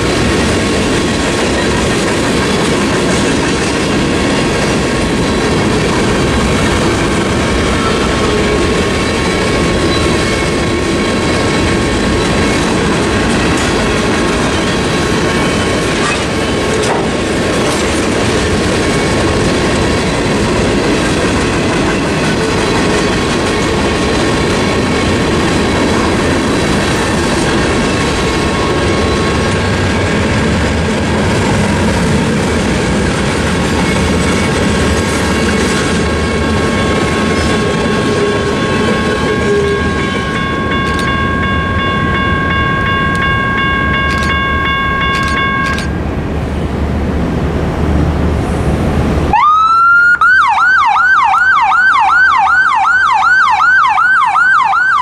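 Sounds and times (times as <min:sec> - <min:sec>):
crossing warning bells ringing: 0:00.0 - 0:31.6, 0:33.6 - 0:46.1
train wheels clacking on rails: 0:00.0 - 0:46.0.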